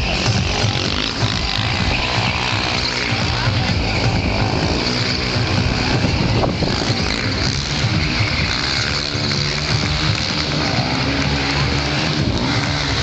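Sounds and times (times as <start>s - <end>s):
loud background music: 0.0s - 13.0s
quad bike engine running: 0.0s - 13.0s.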